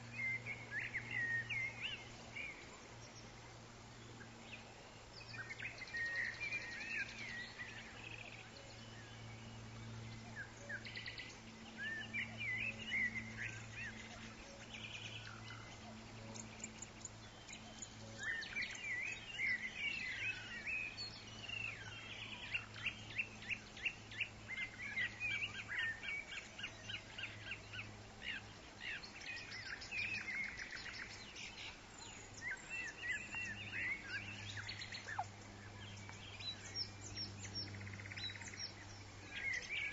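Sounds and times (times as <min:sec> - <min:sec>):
forest birds chirping and trilling: 0:00.0 - 0:39.9
steady low hum: 0:00.0 - 0:39.9.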